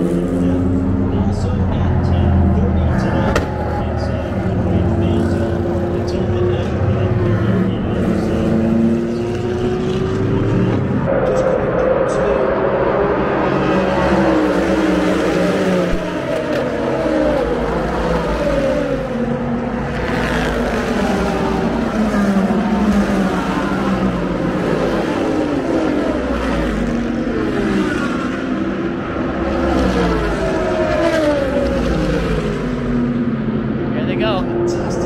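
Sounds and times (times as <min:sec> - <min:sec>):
race cars passing at speed: 0:00.0 - 0:35.0.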